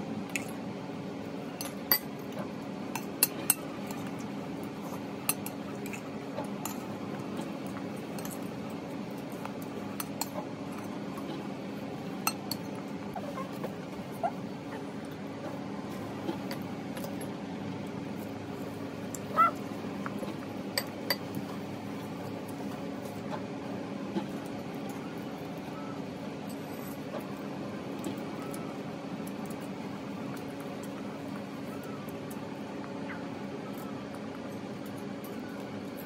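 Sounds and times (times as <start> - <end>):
low room hum: 0.0 - 36.0.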